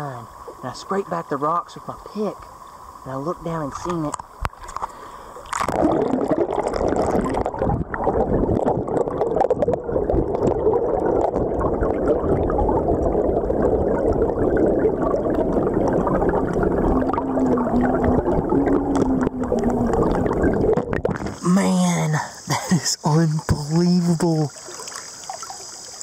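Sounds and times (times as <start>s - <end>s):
low steady hum: 0.0s - 24.7s
underwater river rushing: 0.0s - 26.0s.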